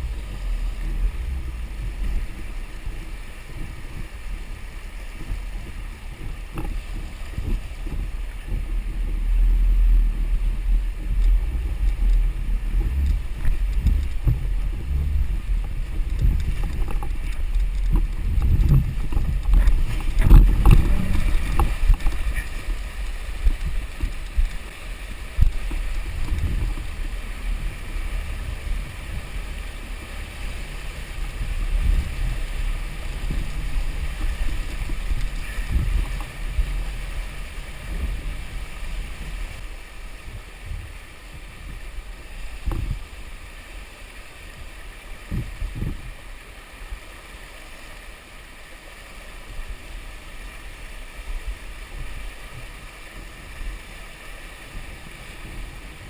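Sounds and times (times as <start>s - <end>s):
rushing river water: 0.0s - 56.0s
wind gusting on microphone: 0.0s - 56.0s.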